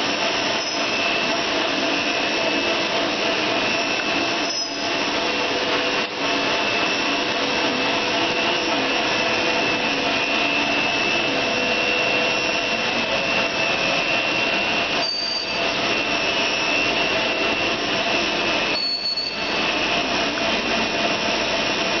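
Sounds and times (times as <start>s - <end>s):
constant high whine: 0.0s - 22.0s
machinery running: 0.0s - 22.0s.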